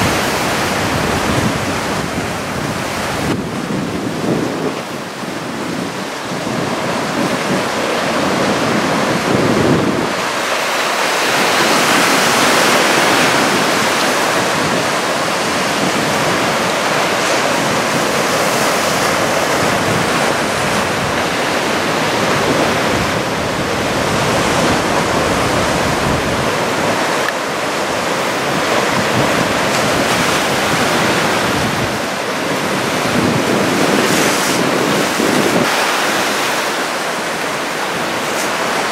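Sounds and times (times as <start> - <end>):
ocean surf breaking: 0.0 - 38.9
wind buffeting microphone: 0.0 - 38.9.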